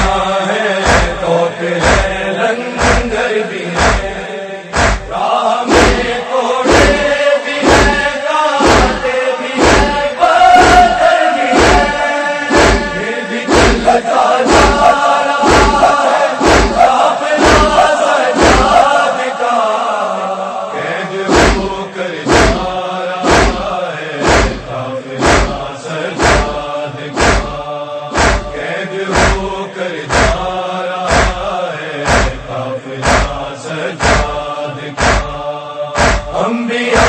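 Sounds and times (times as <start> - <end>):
male chorus chanting: 0.0 - 37.0
chest-beating thumps: 0.8 - 1.2, 1.8 - 2.2, 2.8 - 3.2, 3.8 - 18.9, 21.3 - 26.6, 27.2 - 30.5, 31.1 - 35.4, 36.0 - 36.4.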